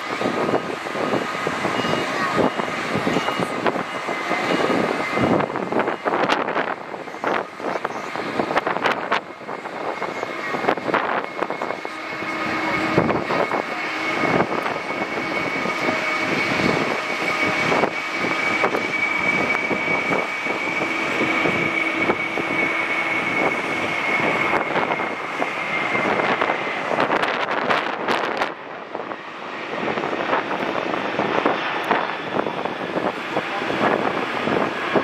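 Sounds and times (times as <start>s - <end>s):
jet engines at takeoff: 0.0s - 35.0s.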